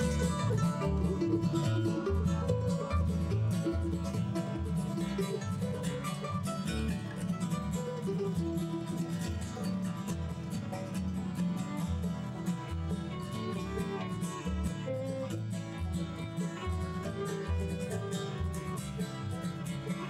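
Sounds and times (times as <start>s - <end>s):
acoustic guitar: 0.0s - 20.0s
banjo: 0.0s - 20.0s
bass line: 0.0s - 20.0s
mandolin: 0.0s - 20.0s.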